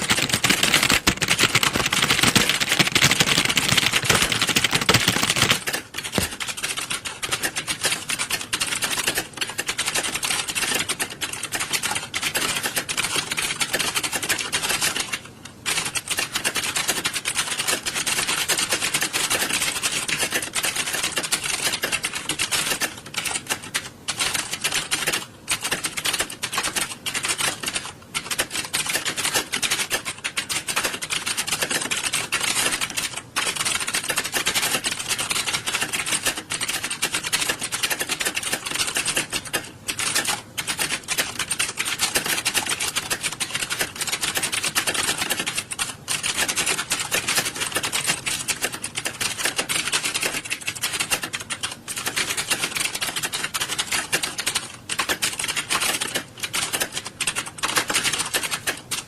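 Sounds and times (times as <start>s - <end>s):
computer keyboards clattering: 0.0s - 59.0s.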